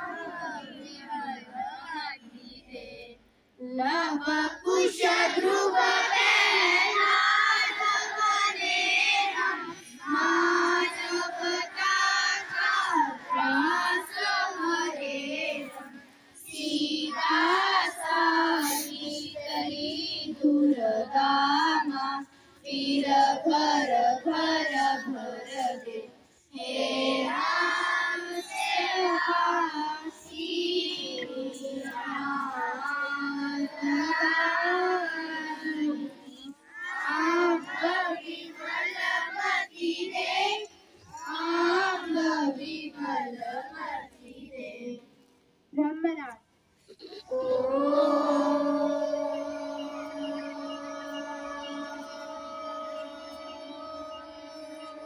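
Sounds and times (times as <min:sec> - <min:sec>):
children singing in unison: 0:00.0 - 0:45.1, 0:46.8 - 0:55.0.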